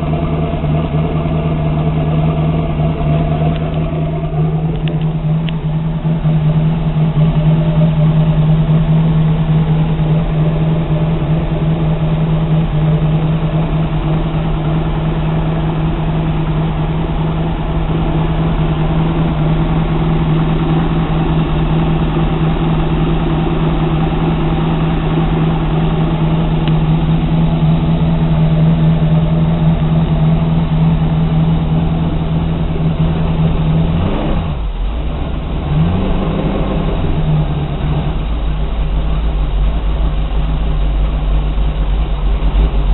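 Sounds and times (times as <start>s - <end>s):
boat engine idling: 0.0s - 42.9s.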